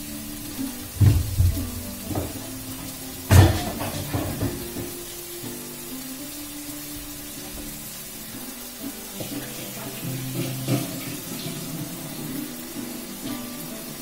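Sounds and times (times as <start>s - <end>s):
tap running into sink: 0.0s - 5.7s, 6.9s - 14.0s.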